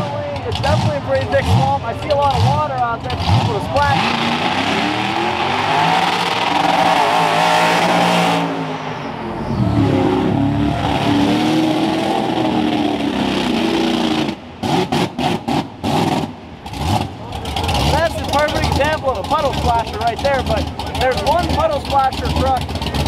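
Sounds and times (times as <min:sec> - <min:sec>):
truck engine revving: 0:00.0 - 0:23.0
truck splashing through water: 0:03.1 - 0:08.9, 0:09.5 - 0:23.0.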